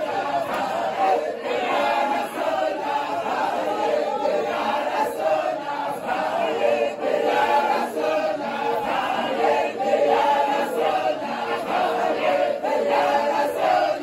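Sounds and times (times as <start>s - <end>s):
men chanting devotional song: 0.0s - 14.0s.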